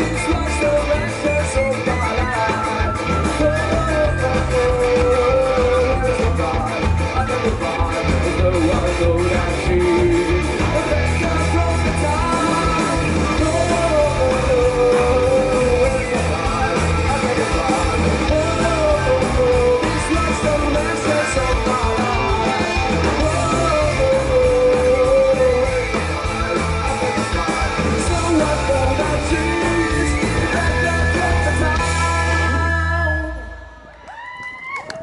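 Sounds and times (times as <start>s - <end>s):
bass guitar: 0.0s - 34.1s
electric guitars: 0.0s - 34.1s
drums: 0.0s - 35.0s.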